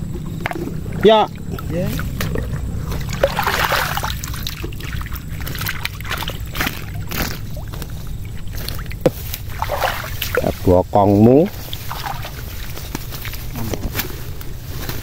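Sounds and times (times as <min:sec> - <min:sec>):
splashes and rustles: 0:00.0 - 0:15.0
steady low rumble: 0:00.0 - 0:15.0
water sloshing off a net: 0:00.2 - 0:10.8, 0:11.4 - 0:13.6.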